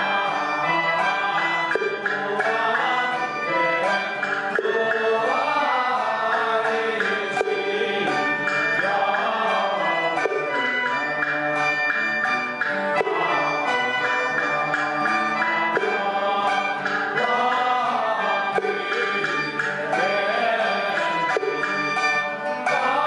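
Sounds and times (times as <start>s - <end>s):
group chanting: 0.0s - 12.3s, 12.9s - 23.0s
accompanying instruments: 0.0s - 23.0s
percussion strikes: 0.0s - 23.0s.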